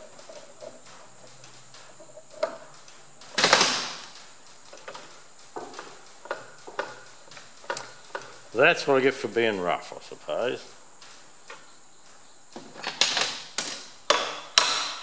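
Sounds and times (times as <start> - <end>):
scraping rustle: 0.0 - 14.0.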